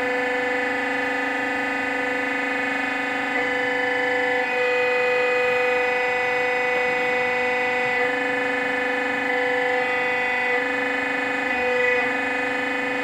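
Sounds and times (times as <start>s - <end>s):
hydraulic pump whining: 0.0s - 13.0s.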